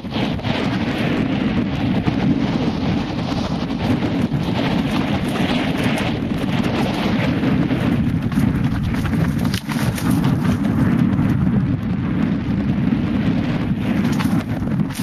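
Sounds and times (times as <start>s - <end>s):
rattle from rough ground: 0.0s - 15.0s
wind buffeting microphone: 0.0s - 15.0s.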